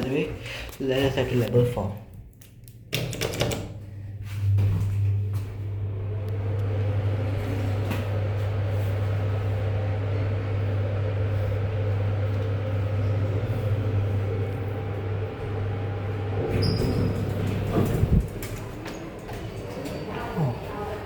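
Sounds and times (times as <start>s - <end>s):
lift low hum: 3.8s - 20.8s.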